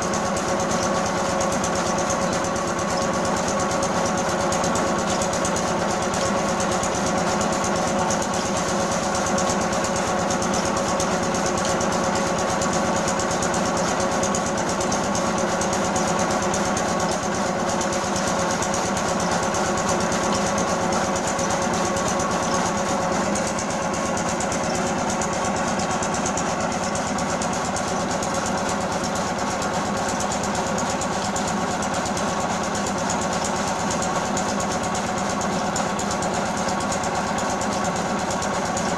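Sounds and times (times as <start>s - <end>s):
chaff cutter chopping clatter: 0.0s - 38.9s
small engine running: 0.0s - 38.9s.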